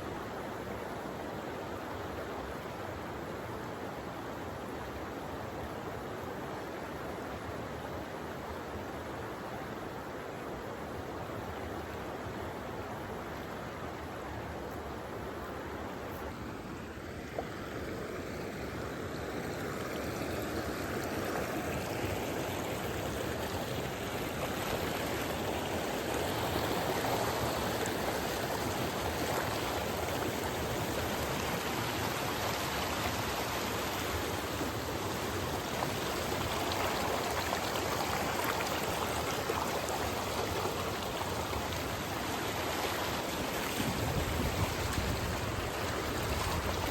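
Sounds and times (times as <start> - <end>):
stream rushing water: 0.0 - 46.9.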